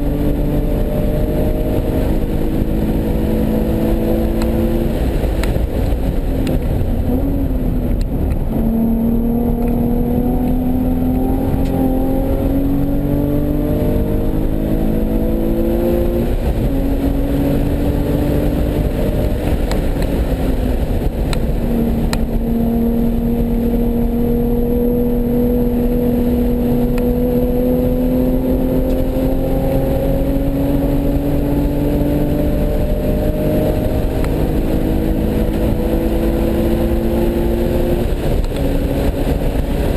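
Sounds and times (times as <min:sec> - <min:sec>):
car engine revving: 0:00.0 - 0:39.9
road and wind rumble: 0:00.0 - 0:39.9.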